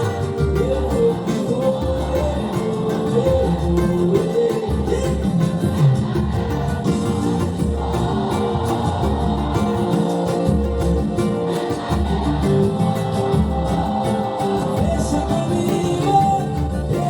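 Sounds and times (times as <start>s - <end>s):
bass line: 0.0s - 17.0s
plucked small guitar: 0.0s - 17.0s.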